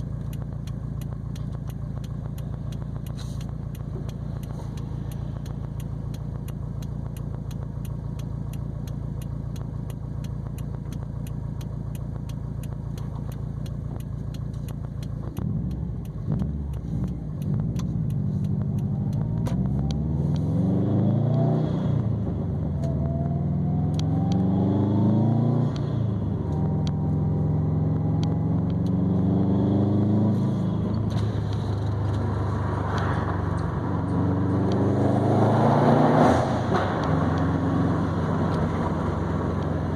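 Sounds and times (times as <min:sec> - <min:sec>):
car exhaust idling and accelerating: 0:00.0 - 0:39.9.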